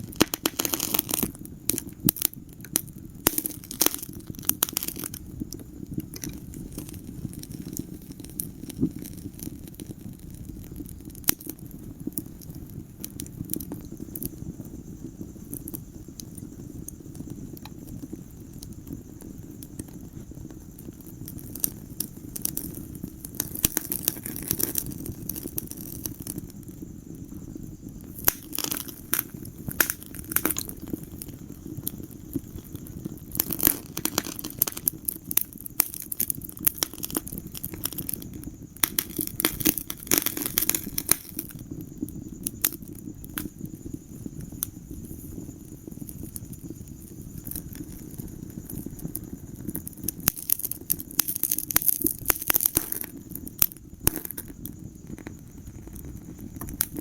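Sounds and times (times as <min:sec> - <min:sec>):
fire crackling and popping: 0:00.0 - 0:57.0
low rush of burning: 0:00.0 - 0:57.0.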